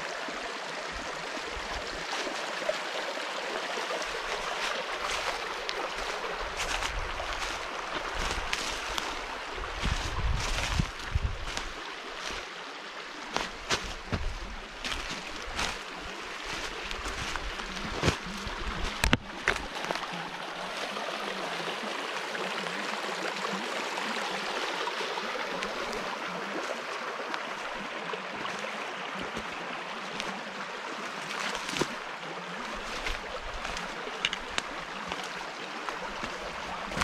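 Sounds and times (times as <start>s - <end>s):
stream babbling over stones: 0.0s - 37.0s.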